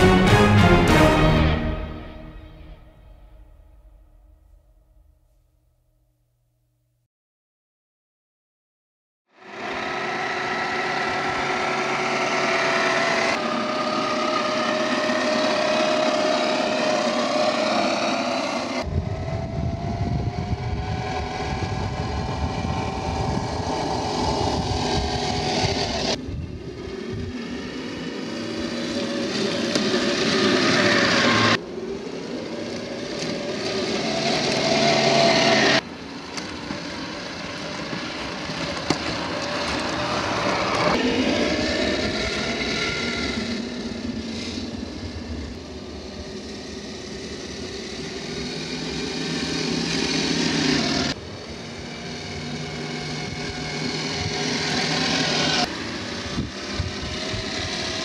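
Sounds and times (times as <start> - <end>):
electric motor whine: 9.4 - 58.0
tyres churning through snow: 9.4 - 58.0.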